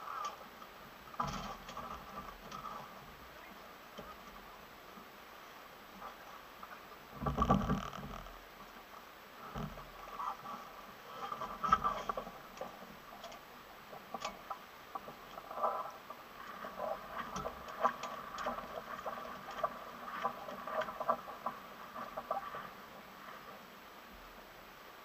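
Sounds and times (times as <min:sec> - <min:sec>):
small waves lapping against hull: 0:00.0 - 0:25.0.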